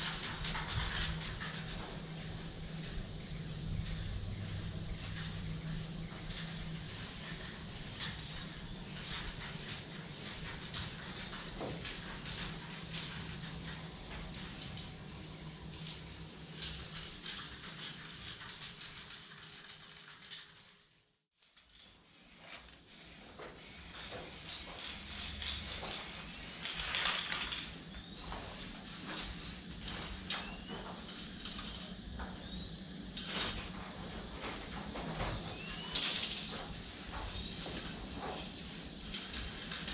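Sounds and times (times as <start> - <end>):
spray paint cans hissing: 0.0 - 20.9, 21.6 - 39.9.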